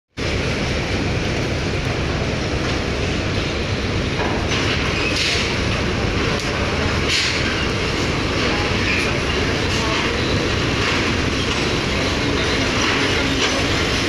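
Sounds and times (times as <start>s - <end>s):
ferry engines rumbling: 0.1s - 14.0s.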